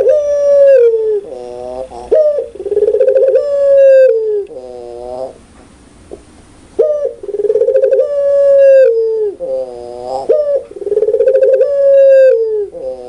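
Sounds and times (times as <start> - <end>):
dove cooing: 0.0 - 5.5, 6.1 - 13.0.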